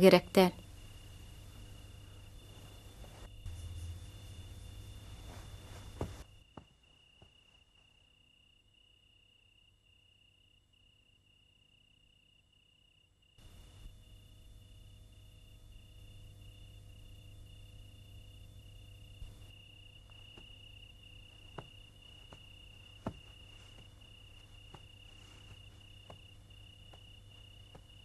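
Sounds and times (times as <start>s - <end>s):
cricket chirping: 0.6s - 28.0s.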